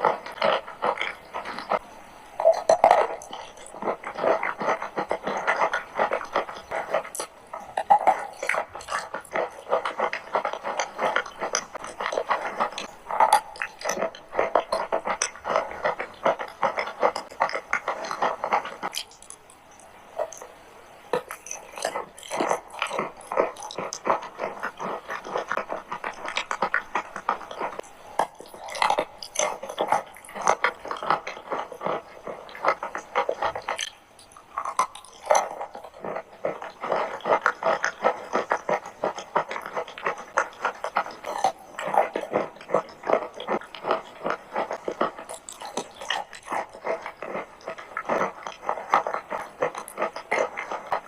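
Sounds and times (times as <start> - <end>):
chewing and crunching chalk: 0.0 - 51.0.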